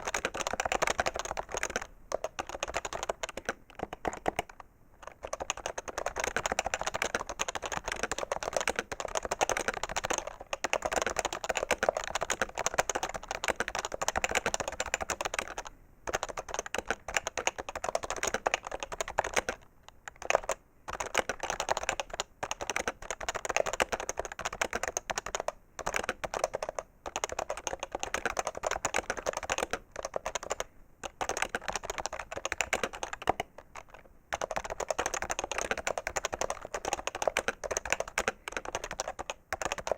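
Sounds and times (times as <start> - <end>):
fast typing on a keyboard: 0.0 - 39.9.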